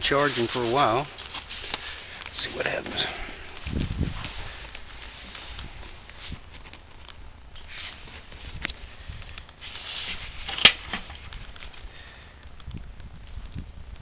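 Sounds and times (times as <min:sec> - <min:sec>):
rustling: 0:00.0 - 0:13.6.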